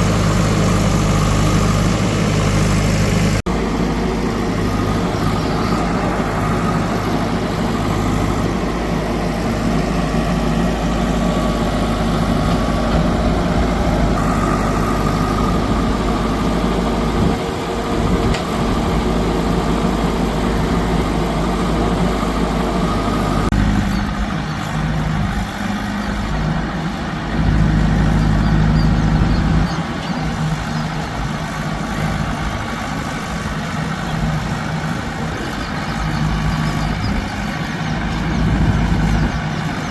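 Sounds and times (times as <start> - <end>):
heavy diesel engines idling: 0.0 - 39.9
loud low engine note: 0.0 - 39.9.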